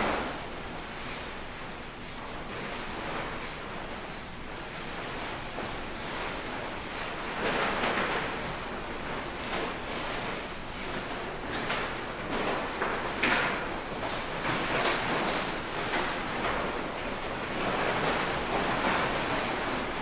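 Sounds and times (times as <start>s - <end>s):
sheet rustling and swishing: 0.0s - 20.0s.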